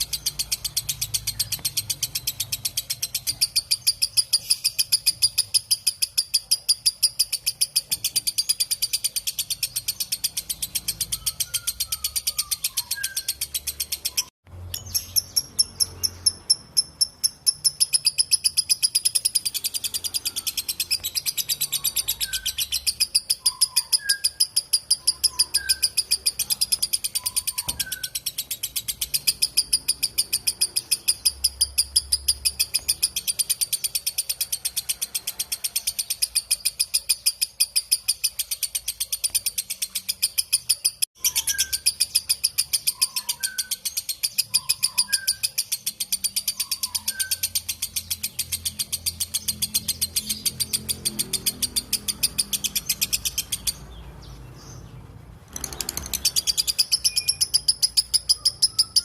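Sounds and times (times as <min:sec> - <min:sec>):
lovebird chattering: 0:00.0 - 0:59.0
softer lower bird chirps: 0:00.0 - 0:59.0.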